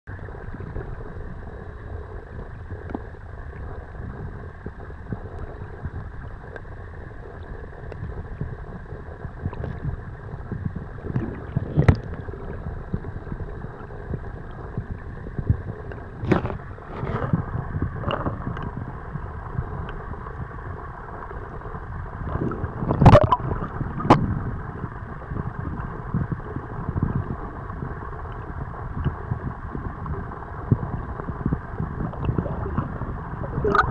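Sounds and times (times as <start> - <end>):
muffled water sloshing underwater: 0.1 - 33.9.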